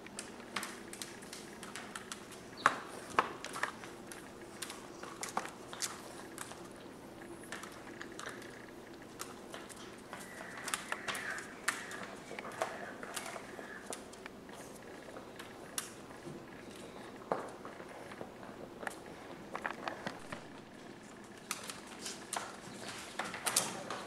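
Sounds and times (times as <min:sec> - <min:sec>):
puppies gnawing on chew: 0:00.0 - 0:24.0
puppies scrabbling on plastic pad: 0:00.0 - 0:24.0.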